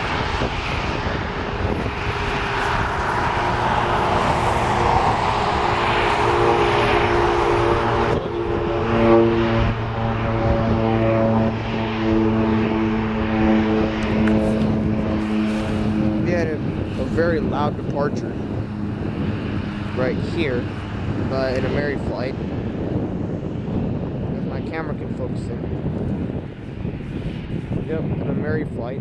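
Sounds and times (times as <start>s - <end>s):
steady droning hum: 0.0s - 25.7s
airliner engine rushing: 0.0s - 29.0s.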